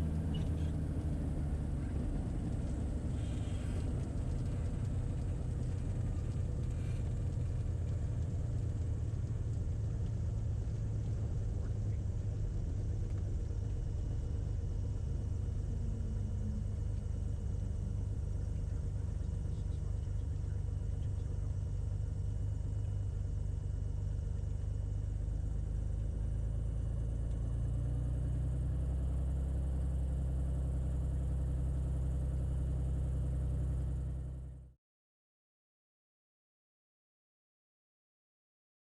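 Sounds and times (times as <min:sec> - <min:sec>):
propeller plane engine from cockpit: 0:00.0 - 0:34.8.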